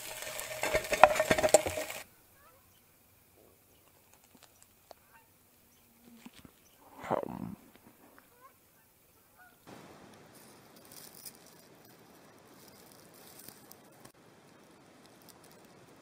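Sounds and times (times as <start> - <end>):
quiet steady hiss: 0.0 - 16.0
faint distant bird calls: 1.7 - 16.0.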